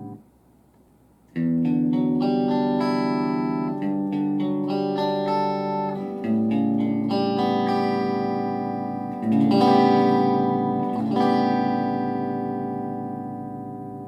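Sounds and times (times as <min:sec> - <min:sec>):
clean electric guitar chords: 0:00.0 - 0:00.2, 0:01.3 - 0:14.0.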